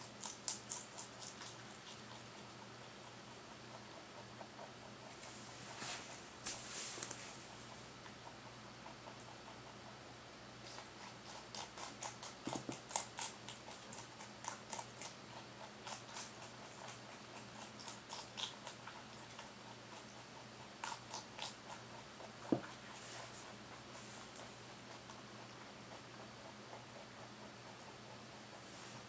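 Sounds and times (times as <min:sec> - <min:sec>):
rabbit crunching leafy greens: 0:00.0 - 0:29.0.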